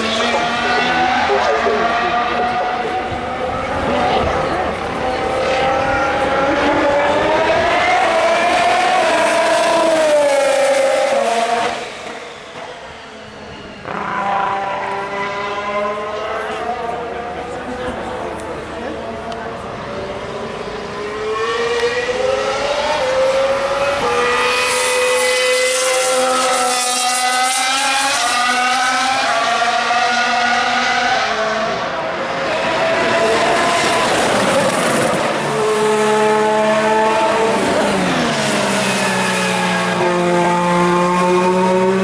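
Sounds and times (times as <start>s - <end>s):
racing car engines passing: 0.0s - 42.0s.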